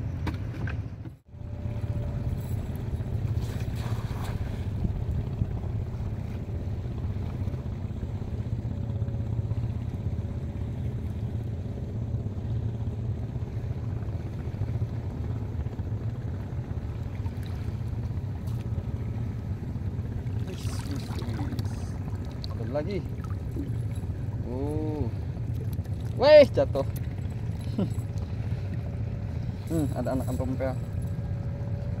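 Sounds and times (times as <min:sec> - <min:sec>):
sea water rumbling: 0:00.0 - 0:32.0
wind: 0:00.0 - 0:32.0.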